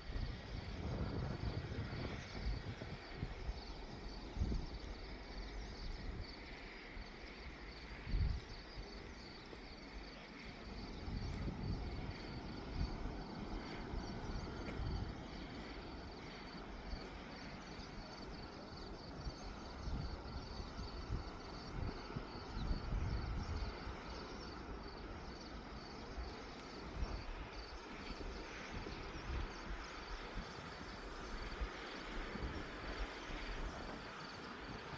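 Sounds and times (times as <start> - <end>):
wind buffeting microphone: 0.0 - 6.5, 7.9 - 34.9
high insect trill: 0.0 - 34.9.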